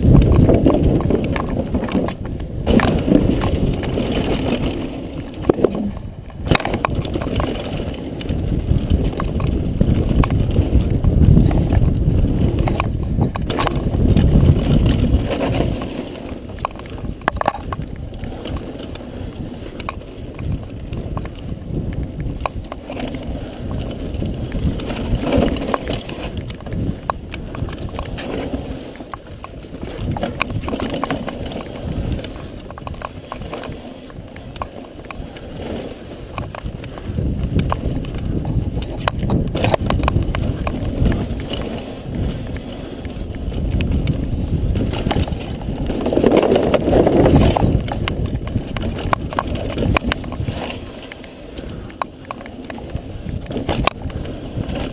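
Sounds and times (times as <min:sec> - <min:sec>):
bike rattling and knocking: 0:00.0 - 0:54.9
bike tyres rumbling on gravel: 0:00.0 - 0:54.9.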